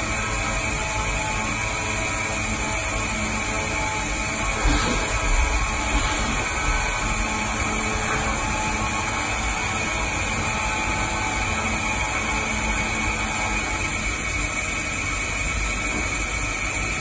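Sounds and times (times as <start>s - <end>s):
machine tool running: 0.0s - 17.0s.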